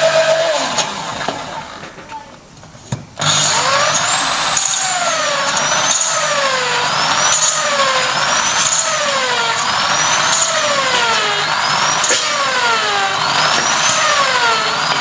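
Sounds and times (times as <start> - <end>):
electric drill whine: 0.0 - 1.8, 3.2 - 15.0.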